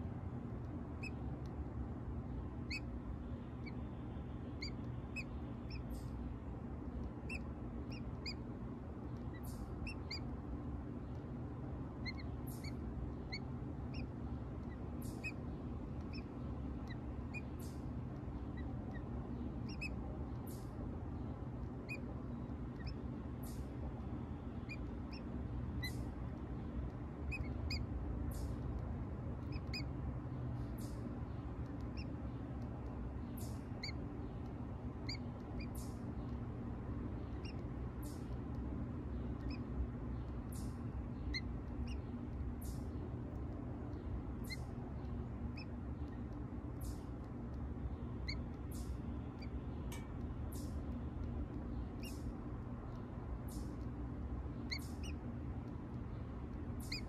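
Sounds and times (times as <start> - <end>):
bird chirps and peeps: 0.0 - 57.0.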